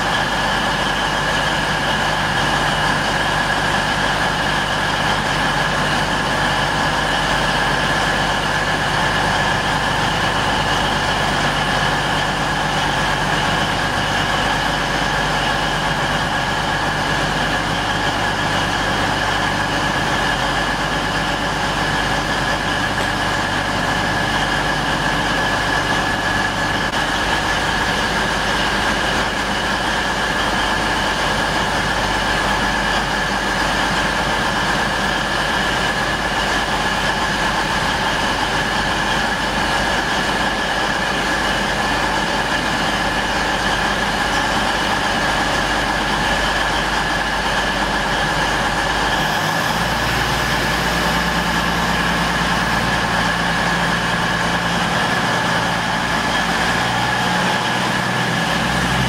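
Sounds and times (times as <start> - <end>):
diesel train engines idling: 0.0 - 59.0.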